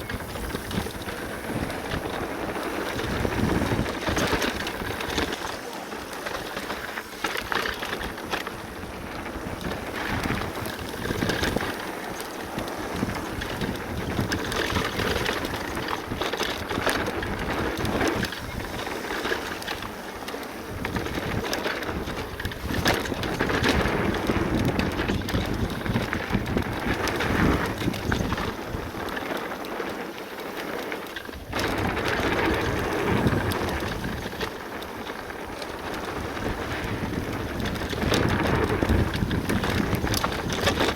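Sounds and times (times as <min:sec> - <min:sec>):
bike clicking and rattling: 0:00.0 - 0:40.9
bike tyres crunching over dirt: 0:00.0 - 0:40.9.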